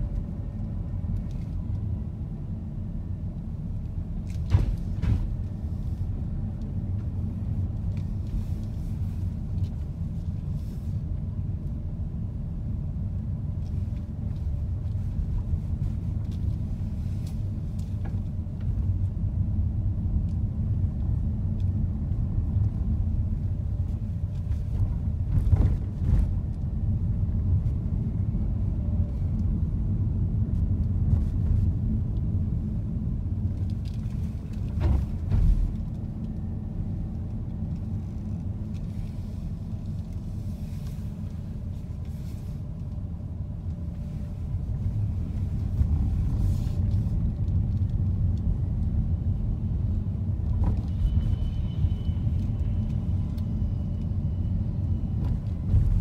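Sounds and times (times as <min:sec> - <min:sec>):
car rumble from inside cabin: 0:00.0 - 0:56.0.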